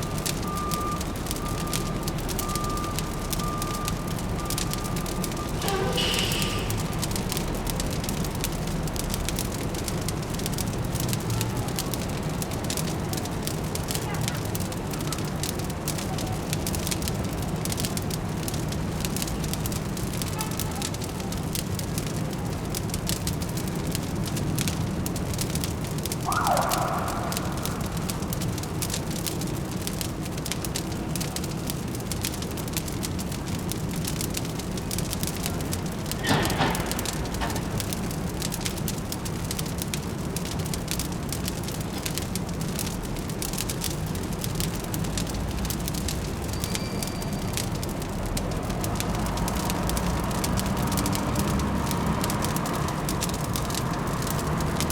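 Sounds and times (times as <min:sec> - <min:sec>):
low city hum: 0:00.0 - 0:54.9
wood fire crackling: 0:00.0 - 0:54.9.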